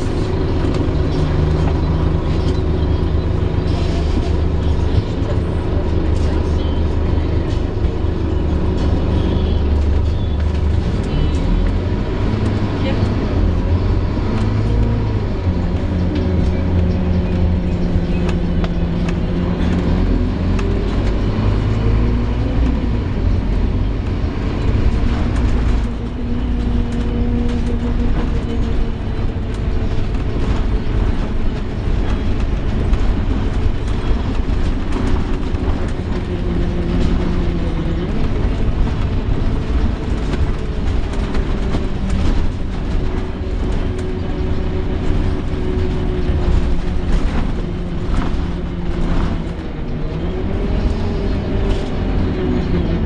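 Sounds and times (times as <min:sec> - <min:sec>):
bus diesel engine groaning: 0:00.0 - 0:53.0.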